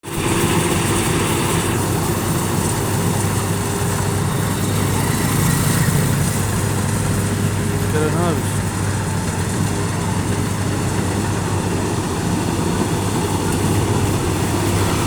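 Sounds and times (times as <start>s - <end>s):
harvester engine humming: 0.0s - 15.0s.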